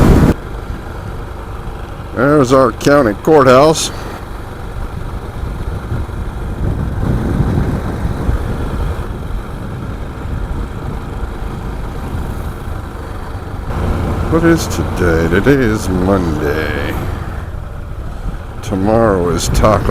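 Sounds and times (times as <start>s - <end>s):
wind rush on microphone: 0.0s - 2.0s, 4.1s - 19.9s
motorcycle engine running: 0.0s - 19.9s.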